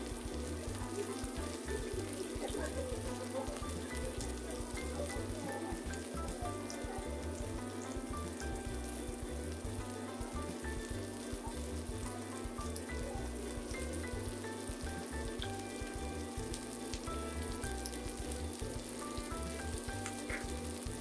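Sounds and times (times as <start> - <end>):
background music: 0.0 - 21.0
meat sizzling in oil: 0.0 - 21.0.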